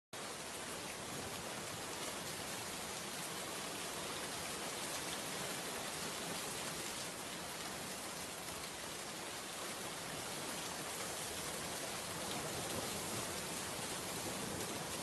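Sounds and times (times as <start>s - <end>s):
steady rain: 0.2s - 15.0s.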